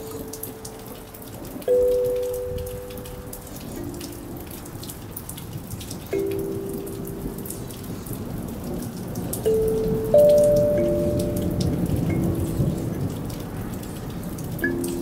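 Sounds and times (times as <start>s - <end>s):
kalimba notes: 0.0s - 13.2s, 14.5s - 15.0s
rain pattering and dripping: 0.0s - 15.0s.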